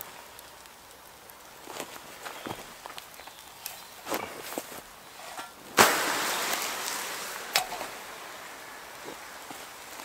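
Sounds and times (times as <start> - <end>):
steam hissing from quenched embers: 0.0 - 10.0.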